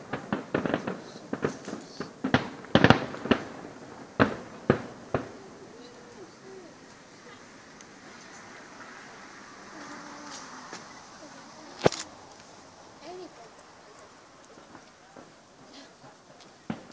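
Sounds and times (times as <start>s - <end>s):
fireworks bursting: 0.0s - 16.9s.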